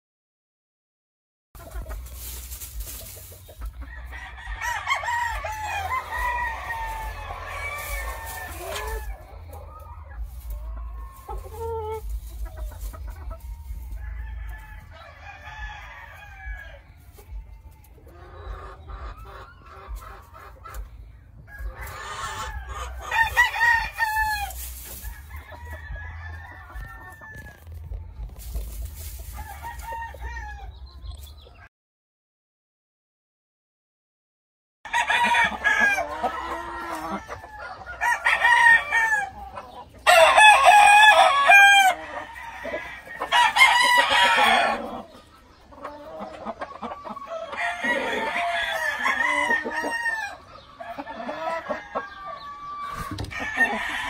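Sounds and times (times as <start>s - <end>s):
chickens clucking: 1.6s - 31.7s, 34.9s - 54.0s
roosters crowing: 1.8s - 20.5s, 21.4s - 31.0s, 34.8s - 54.0s.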